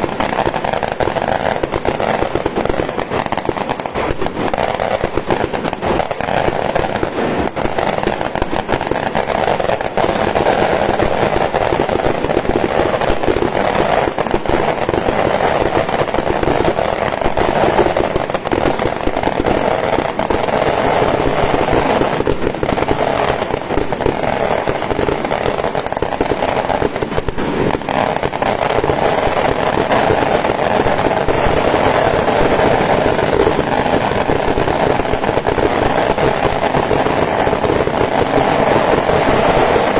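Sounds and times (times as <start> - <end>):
firecrackers going off: 0.0 - 39.9.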